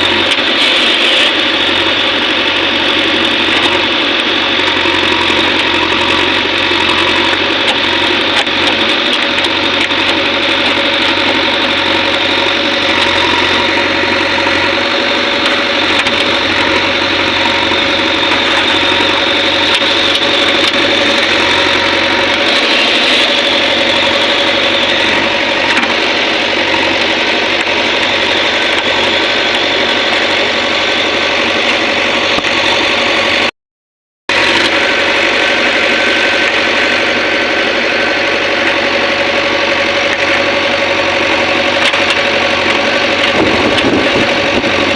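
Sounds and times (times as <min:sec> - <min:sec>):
diesel engine running: 0:00.0 - 0:33.5, 0:34.3 - 0:44.9.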